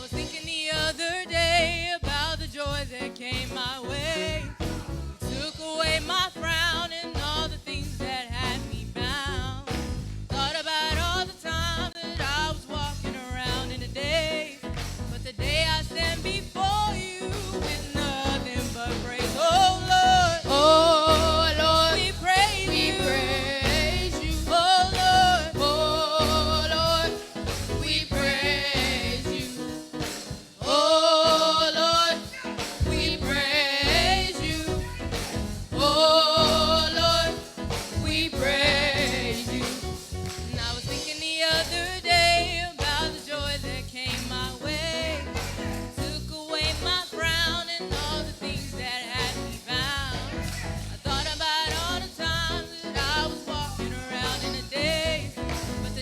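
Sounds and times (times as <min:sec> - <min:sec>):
gospel singing: 0:00.0 - 0:56.0
instrumental accompaniment: 0:02.9 - 0:56.0.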